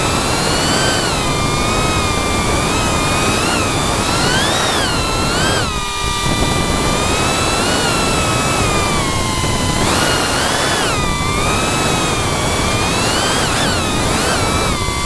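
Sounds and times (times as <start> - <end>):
drone motors whining: 0.0 - 15.0
rushing wind noise: 0.0 - 15.0.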